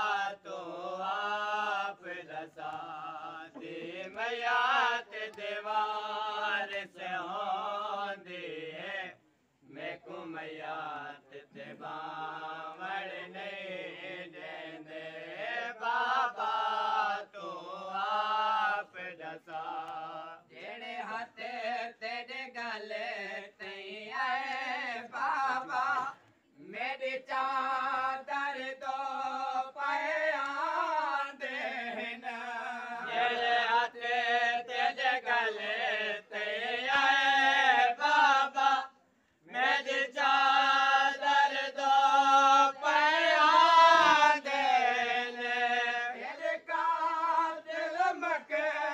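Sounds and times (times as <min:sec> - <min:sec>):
men chanting a lament: 0:00.0 - 0:48.9.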